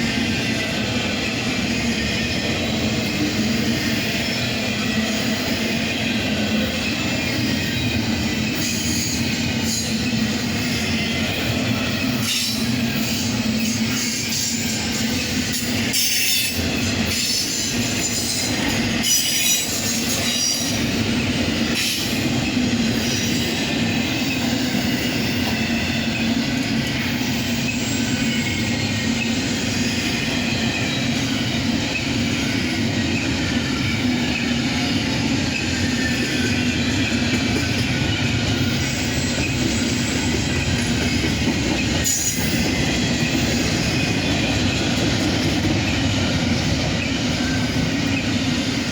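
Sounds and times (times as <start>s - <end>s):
freight train rumbling past: 0.0s - 48.9s
wheels squealing on rail: 0.0s - 48.9s.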